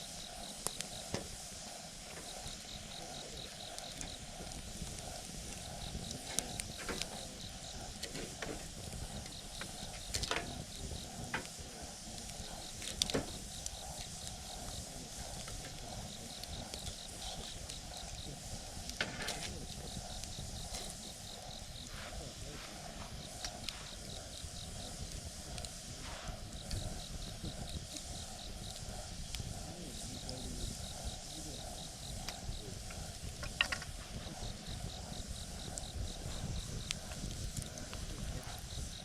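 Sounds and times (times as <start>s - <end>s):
campfire burning with low rush: 0.0s - 39.0s
fire crackles and pops: 0.0s - 39.0s
insect chirping in pulses: 0.0s - 39.0s.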